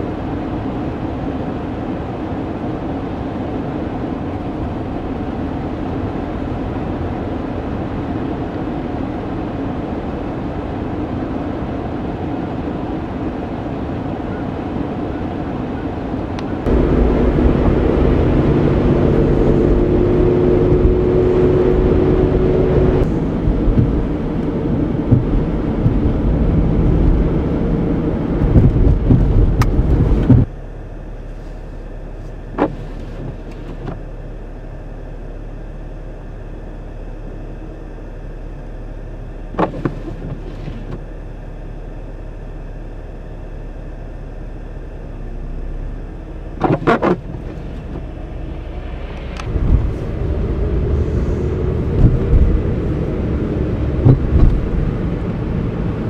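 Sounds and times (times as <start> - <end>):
car running noise from inside: 0.0 - 56.0
deep rumble and hum: 0.0 - 56.0.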